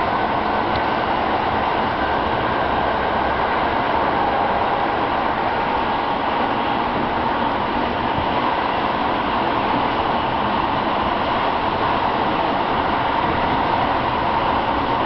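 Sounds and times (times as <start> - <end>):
electric train running noise: 0.0 - 15.0.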